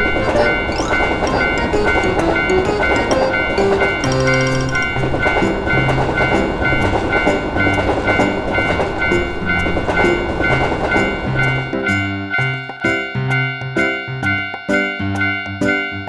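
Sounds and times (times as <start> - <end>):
passing train rumble: 0.0 - 13.5
railroad crossing bell ringing: 0.0 - 16.0.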